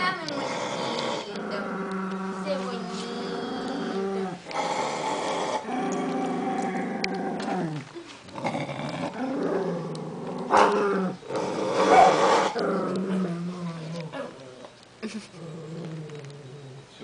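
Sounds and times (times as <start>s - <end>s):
dog growling low: 0.2s - 17.0s.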